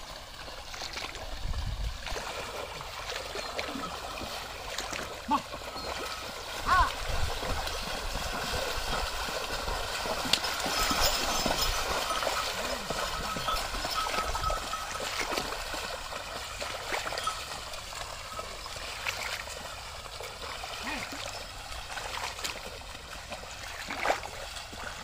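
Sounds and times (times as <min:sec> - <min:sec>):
muddy water sloshing and splashing: 0:00.0 - 0:25.0.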